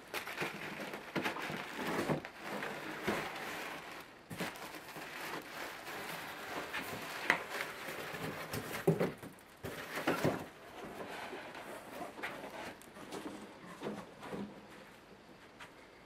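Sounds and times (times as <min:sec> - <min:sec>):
cardboard and plastic rustling: 0:00.0 - 0:14.8
sharp crackles and knocks: 0:00.0 - 0:15.7.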